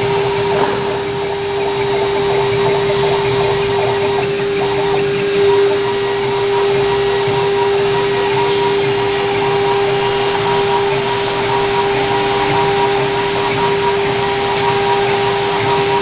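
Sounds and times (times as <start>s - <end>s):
bit milling circuit board: 0.0s - 16.0s
router spindle whine: 0.0s - 16.0s.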